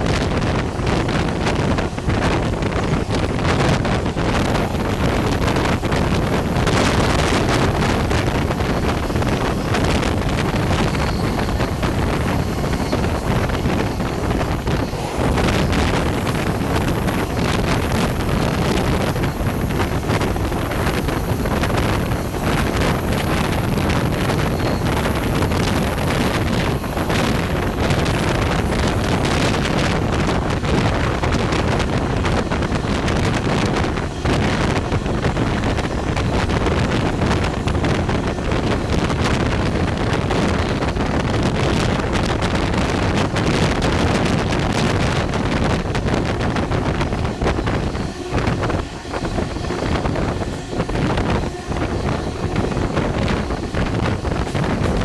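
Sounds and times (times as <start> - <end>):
passenger train running: 0.0 - 55.0
wind buffeting microphone: 0.0 - 55.0.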